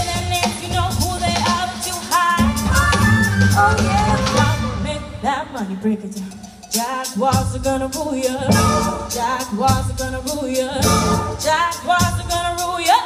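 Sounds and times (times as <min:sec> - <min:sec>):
steady drum beat: 0:00.0 - 0:04.8, 0:06.1 - 0:13.0
band accompaniment: 0:00.0 - 0:13.0.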